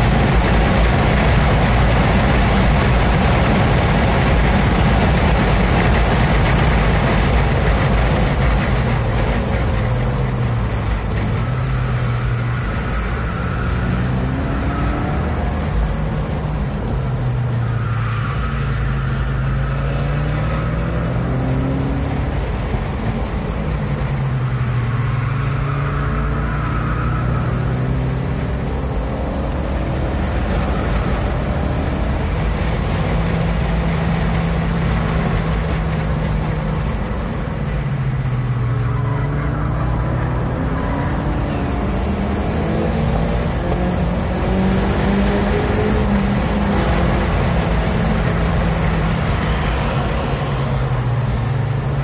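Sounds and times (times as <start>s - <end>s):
car engine revving: 0.0s - 52.0s
wind and road noise: 0.0s - 52.0s.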